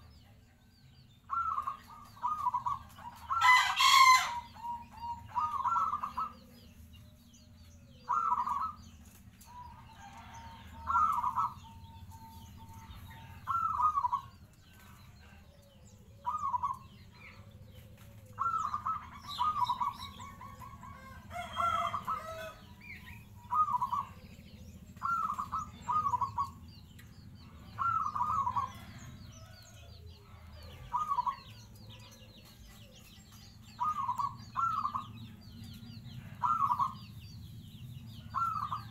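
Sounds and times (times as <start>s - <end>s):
dove cooing: 1.3s - 37.2s, 38.2s - 38.9s.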